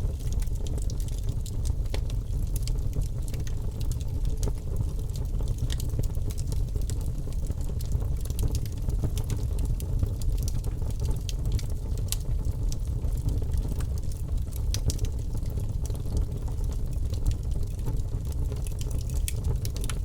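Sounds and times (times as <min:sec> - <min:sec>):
logs burning in a fireplace: 0:00.0 - 0:20.0.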